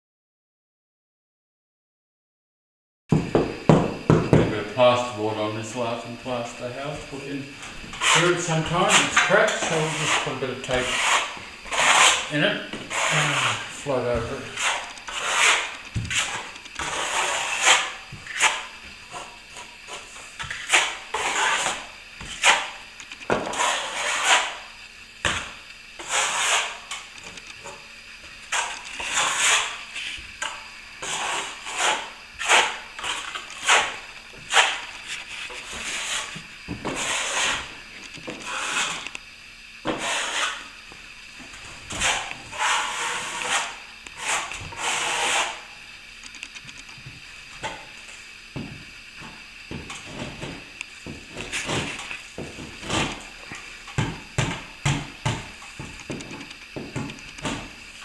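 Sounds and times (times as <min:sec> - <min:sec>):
plastering tool scraping plasterboard: 0:03.1 - 0:39.2, 0:39.8 - 0:58.0.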